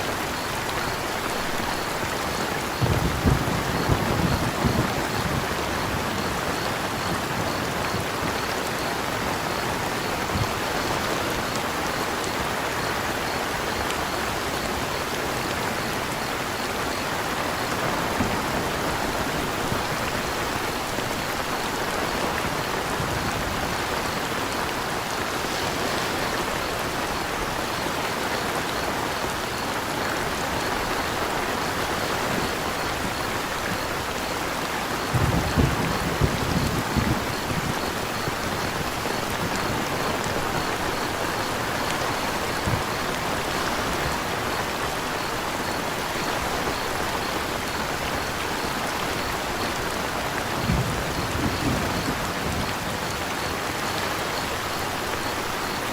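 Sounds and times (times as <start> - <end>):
cricket chirping: 0.0 - 55.9
rain pattering: 0.0 - 55.9.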